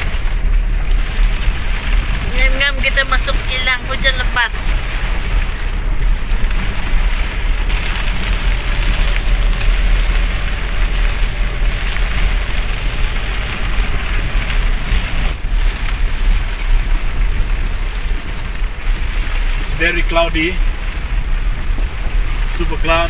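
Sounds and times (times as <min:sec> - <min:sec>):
engine and road rumble: 0:00.0 - 0:23.0
heavy rain drumming on vehicle: 0:00.0 - 0:23.0.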